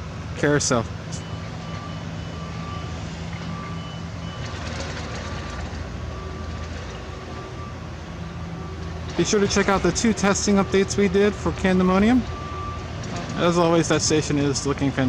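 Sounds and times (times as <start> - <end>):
low engine rumble: 0.0 - 15.0
reversing alarm beeping: 0.4 - 15.0.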